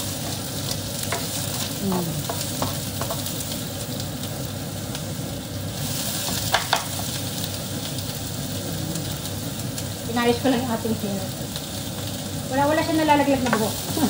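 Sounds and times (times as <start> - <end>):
onions sizzling in a frying pan: 0.0 - 14.0.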